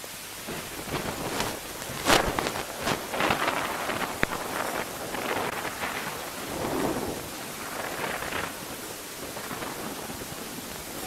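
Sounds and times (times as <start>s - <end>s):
breaking waves with spray: 0.0s - 11.0s
gale-force wind: 0.0s - 11.0s.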